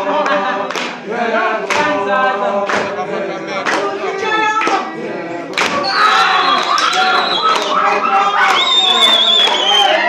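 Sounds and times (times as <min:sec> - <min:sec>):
sharp rhythmic beat: 0:00.0 - 0:09.0
group singing without instruments: 0:00.0 - 0:10.0.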